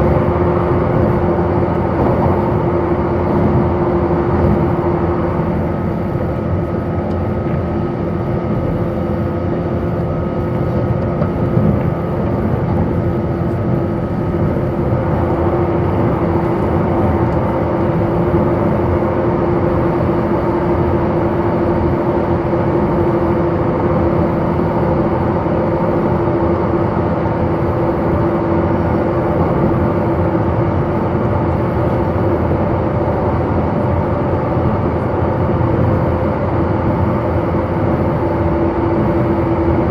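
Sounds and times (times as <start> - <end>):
steady hum: 0.0 - 39.9
train wheel and rail noise: 0.0 - 39.9.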